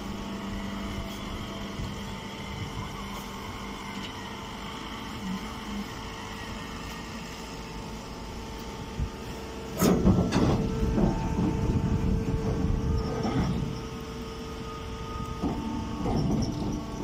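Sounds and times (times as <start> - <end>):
hay baler humming: 0.0 - 17.0.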